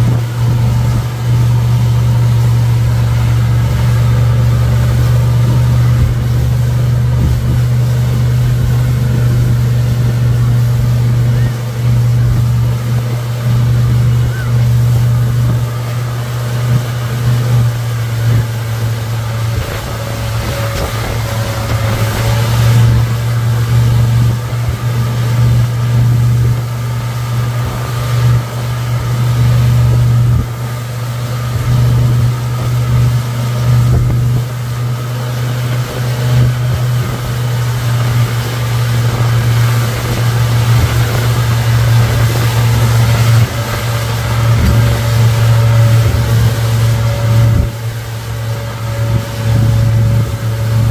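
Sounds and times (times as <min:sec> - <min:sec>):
churning wake water: 0:00.0 - 0:50.9
outboard motor low hum: 0:00.0 - 0:50.9
wind: 0:00.0 - 0:50.9.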